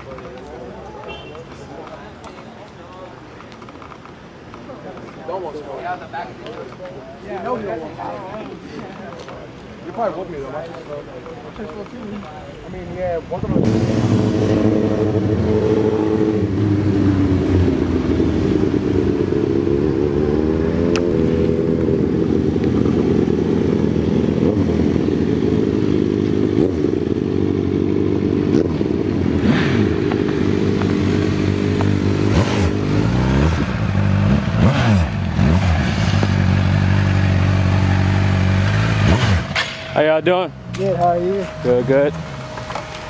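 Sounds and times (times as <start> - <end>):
vehicle engines revving: 3.4 - 43.0.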